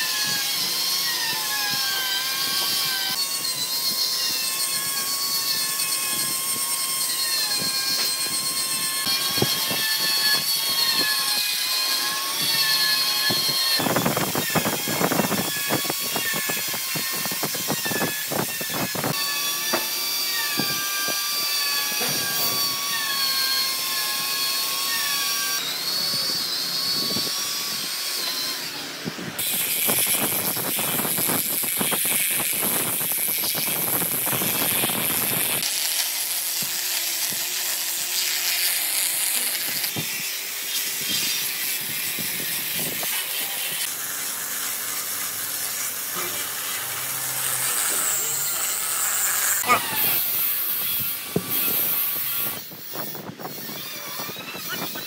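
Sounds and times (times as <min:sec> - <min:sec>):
power tool motor whine: 0:00.0 - 0:55.0.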